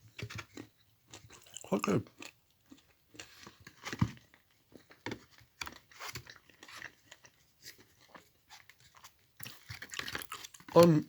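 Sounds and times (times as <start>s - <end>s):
person chewing and crunching chocolate: 0.0s - 11.0s.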